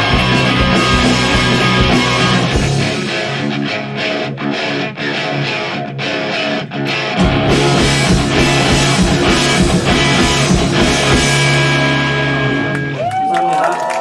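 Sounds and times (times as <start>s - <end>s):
live rock band playing: 0.0s - 13.0s
electric guitar: 0.0s - 13.6s
drums: 0.0s - 13.7s.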